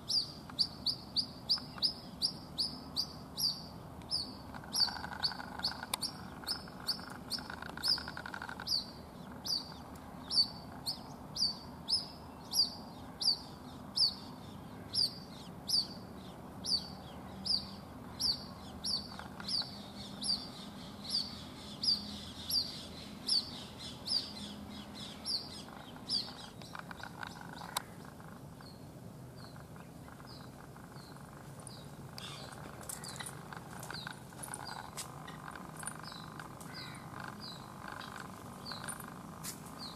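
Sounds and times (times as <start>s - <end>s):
bird chick peeping: 0.0s - 39.9s.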